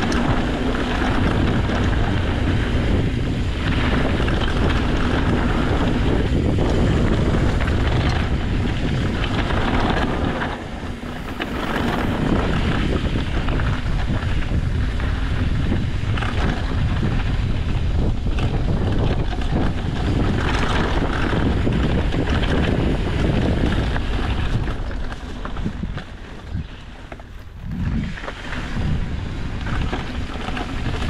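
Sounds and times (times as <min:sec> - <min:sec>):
bike tyres rumbling on trail: 0:00.0 - 0:31.0
wind buffeting the microphone: 0:00.0 - 0:31.0.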